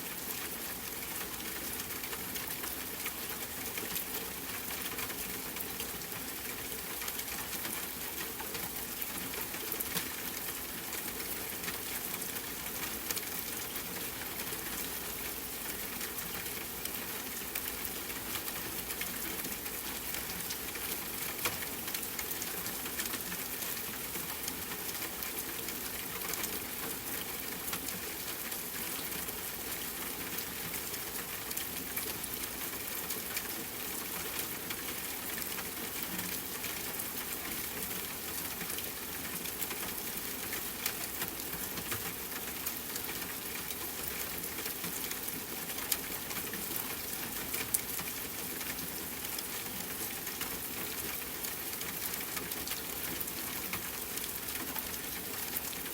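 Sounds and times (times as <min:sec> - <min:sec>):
rain falling on a tent: 0:00.0 - 0:55.9.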